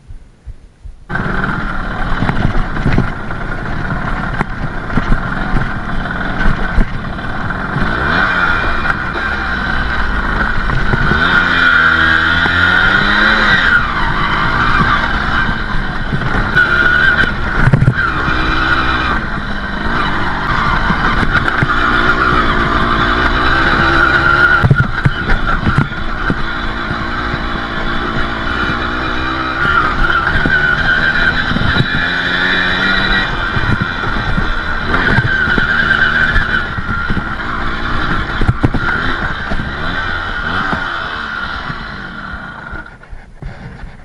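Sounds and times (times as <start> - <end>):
dirt bike engine revving: 1.1 - 44.0.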